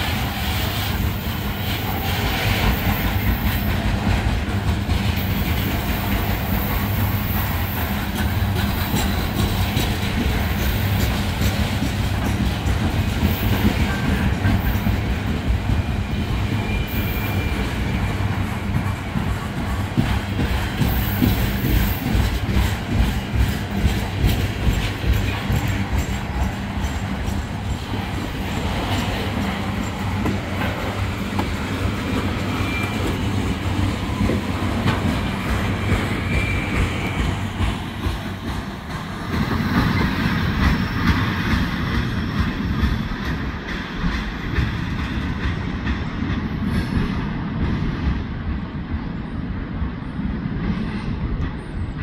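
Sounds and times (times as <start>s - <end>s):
wheels clicking over rail joints: 0.0s - 15.9s, 16.6s - 47.1s
steel wheels rumbling on rail: 0.0s - 52.0s.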